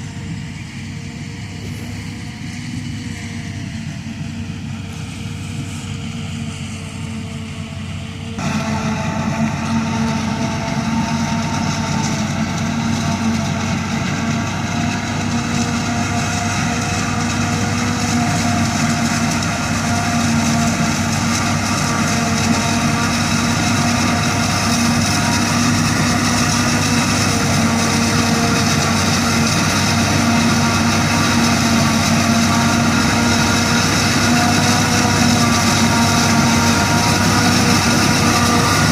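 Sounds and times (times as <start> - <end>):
heavy engine hum: 0.0 - 38.9
machinery whining tones: 0.0 - 38.9.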